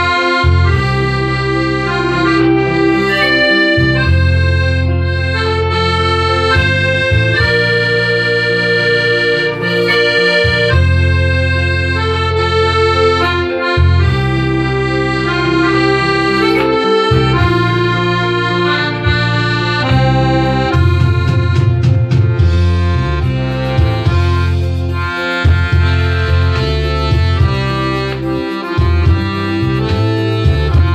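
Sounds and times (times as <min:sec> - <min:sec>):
accordion playing a tune: 0:00.0 - 0:30.9.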